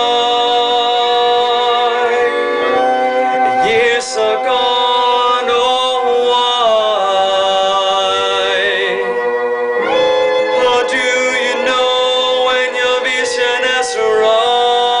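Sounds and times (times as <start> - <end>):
held musical notes: 0.0 - 15.0
man singing long notes: 0.0 - 15.0.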